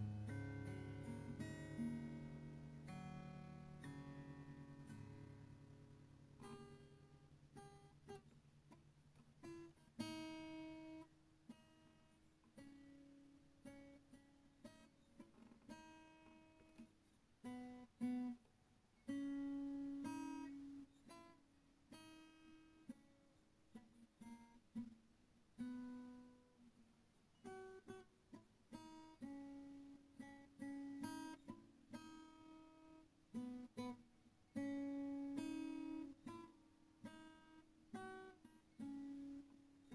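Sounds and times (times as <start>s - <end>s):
acoustic guitar plucking and strumming: 0.0s - 26.7s, 27.3s - 39.9s.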